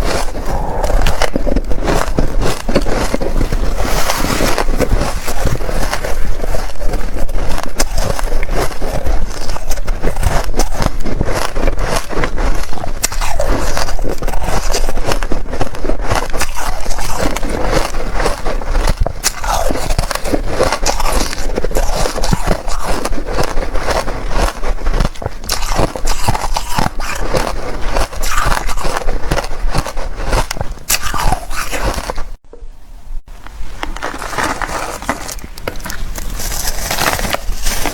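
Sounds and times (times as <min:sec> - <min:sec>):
chewing crunchy ice: 0:00.0 - 0:32.4, 0:33.8 - 0:37.9.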